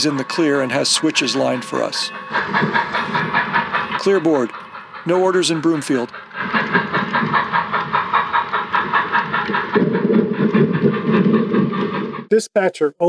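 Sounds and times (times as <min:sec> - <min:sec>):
model steam train chugging: 0:00.0 - 0:12.7.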